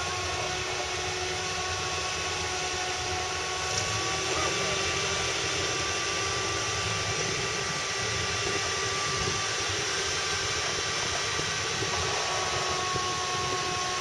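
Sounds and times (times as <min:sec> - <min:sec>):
vehicle engine running slowly: 0:00.0 - 0:14.0.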